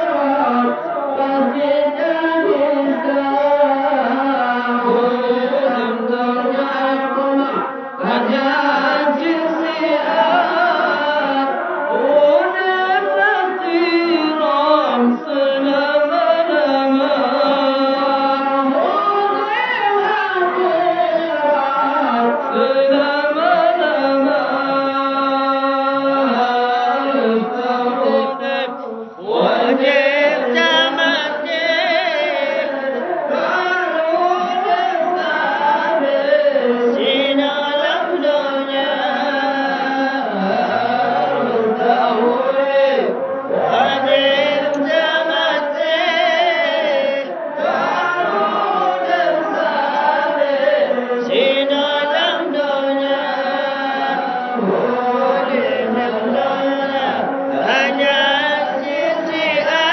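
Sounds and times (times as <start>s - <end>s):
voices chanting long notes: 0.0s - 59.9s.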